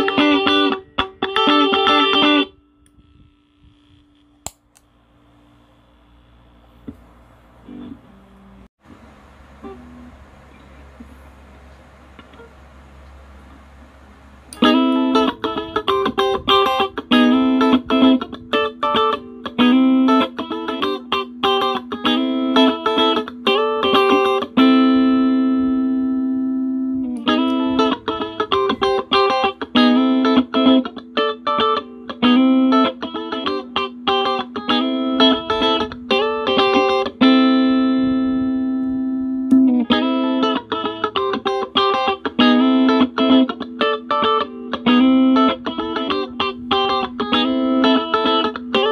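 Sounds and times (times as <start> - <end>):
electric guitar picked notes: 0.0 - 4.6, 7.6 - 48.9.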